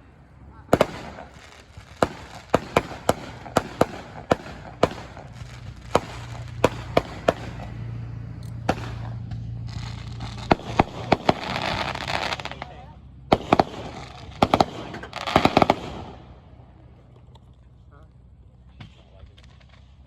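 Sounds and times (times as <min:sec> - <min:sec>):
fireworks bangs: 0:00.0 - 0:16.9.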